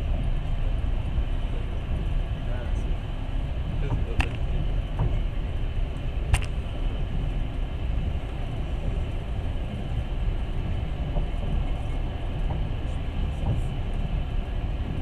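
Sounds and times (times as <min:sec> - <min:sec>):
train rumbling along track: 0:00.0 - 0:15.0.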